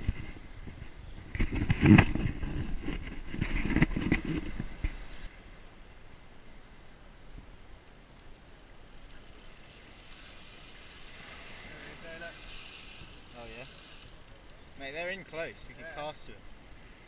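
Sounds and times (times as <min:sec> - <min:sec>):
faint surf: 0:00.0 - 0:17.0.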